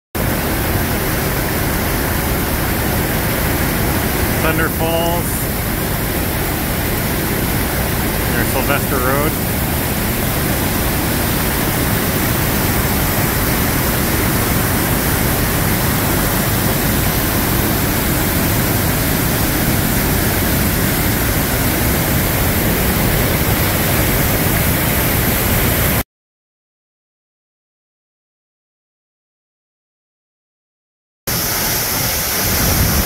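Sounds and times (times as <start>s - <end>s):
whitewater rushing: 0.2s - 26.0s, 31.3s - 33.0s.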